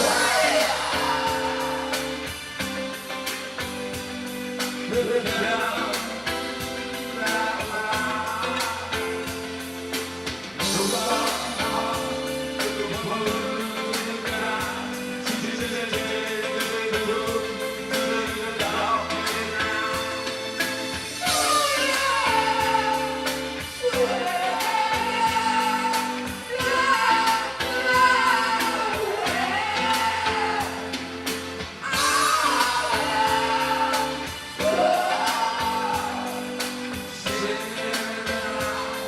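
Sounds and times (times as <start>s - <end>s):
song with singing and beat: 0.0s - 39.0s.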